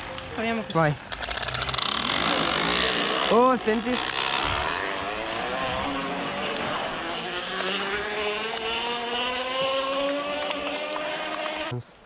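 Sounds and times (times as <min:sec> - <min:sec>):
plastic bottle buzzing in bicycle spokes: 0:01.1 - 0:11.7.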